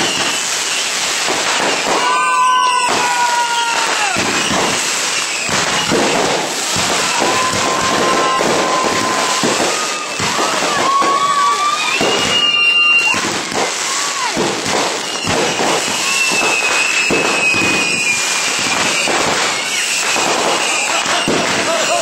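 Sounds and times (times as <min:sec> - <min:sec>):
fireworks crackling and popping: 0:00.0 - 0:22.0
whistling fireworks: 0:00.0 - 0:22.0.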